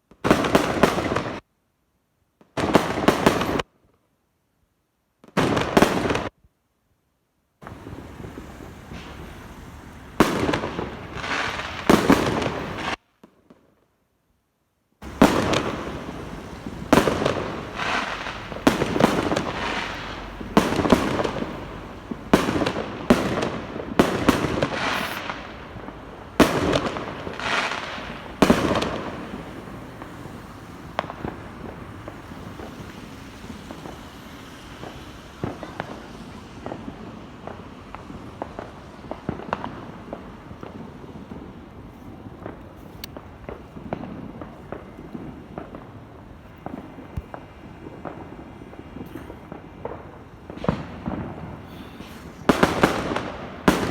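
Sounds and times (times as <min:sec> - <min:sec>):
fireworks pops and crackles: 0:00.0 - 0:01.5, 0:02.4 - 0:04.0, 0:05.2 - 0:06.4, 0:07.6 - 0:13.9, 0:15.0 - 0:53.9
fireworks bangs with echo: 0:00.1 - 0:01.4, 0:02.5 - 0:03.7, 0:05.2 - 0:06.3, 0:07.6 - 0:13.7, 0:15.0 - 0:53.9.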